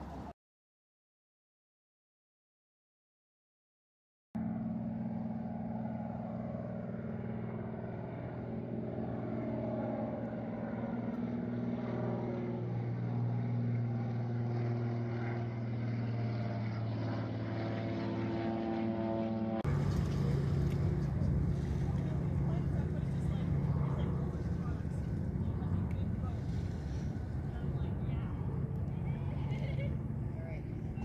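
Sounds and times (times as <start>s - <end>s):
propeller plane engine droning: 0.0s - 0.3s, 4.4s - 31.0s.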